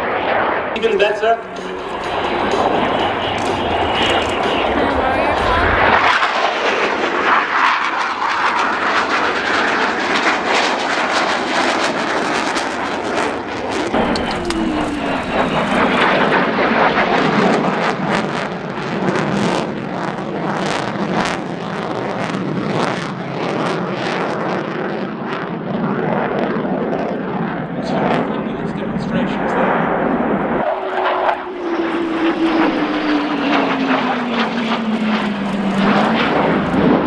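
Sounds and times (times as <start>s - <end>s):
jet aircraft roaring overhead: 0.0s - 13.0s, 13.9s - 19.8s, 23.4s - 37.0s.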